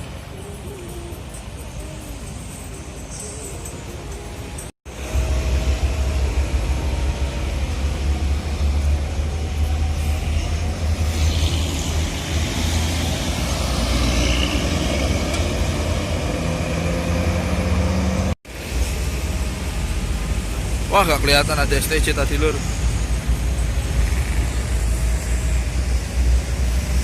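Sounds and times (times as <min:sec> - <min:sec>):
diesel bus engine rumbling: 0:00.0 - 0:27.0
road traffic noise: 0:00.0 - 0:27.0.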